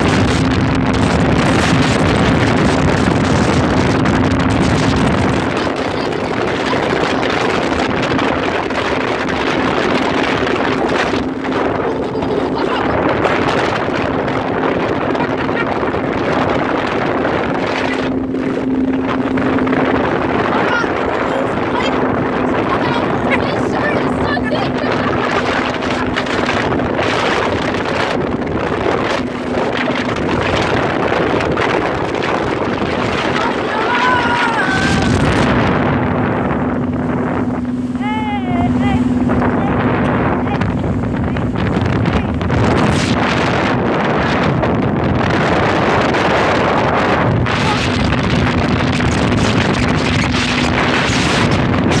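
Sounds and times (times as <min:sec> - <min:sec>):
boat engine drone: 0:00.0 - 0:52.0
wind buffeting microphone: 0:00.0 - 0:52.0.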